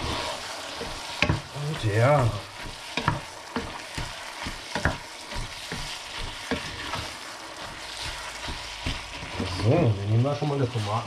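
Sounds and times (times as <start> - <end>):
meat sizzling in a frying pan: 0.0 - 11.0
wooden spatula scraping a pan: 0.0 - 11.0.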